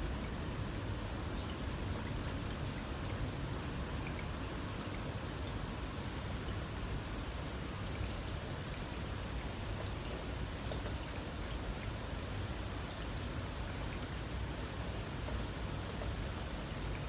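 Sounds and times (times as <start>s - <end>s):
light rain falling: 0.0s - 17.0s.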